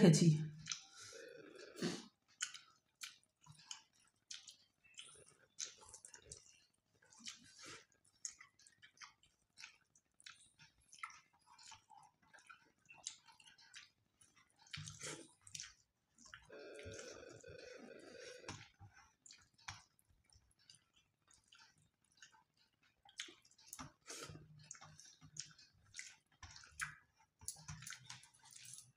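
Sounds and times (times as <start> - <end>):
chewing: 0.6 - 28.9
wet clicks of rice mixed by hand: 2.2 - 17.1, 18.4 - 28.9.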